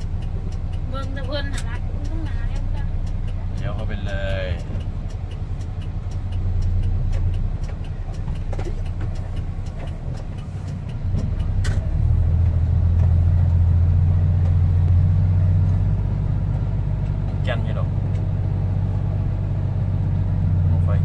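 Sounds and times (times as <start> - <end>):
truck diesel engine drone: 0.0 - 21.0.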